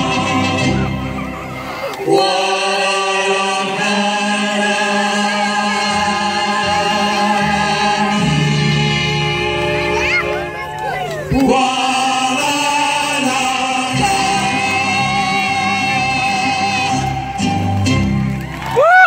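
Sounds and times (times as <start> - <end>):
mariachi song with singing: 0.0 - 10.6, 11.2 - 19.0.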